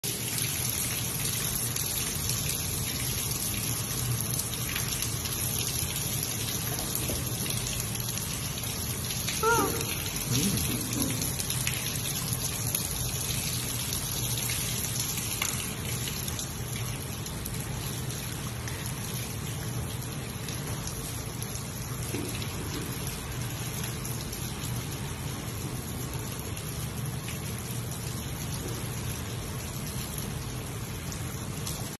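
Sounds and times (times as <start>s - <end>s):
water pouring into pool: 0.0s - 31.9s.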